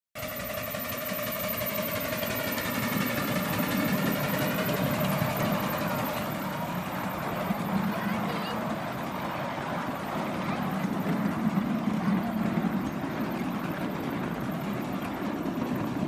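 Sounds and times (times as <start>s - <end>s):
steam locomotive rumbling and hissing: 0.2s - 16.0s.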